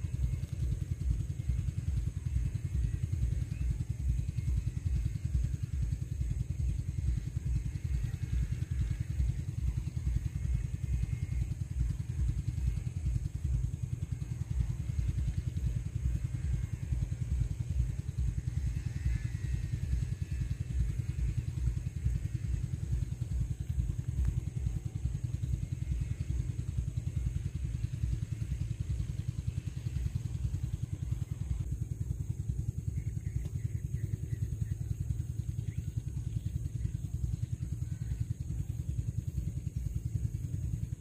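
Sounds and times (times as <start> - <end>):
small engine running: 0.0 - 41.0.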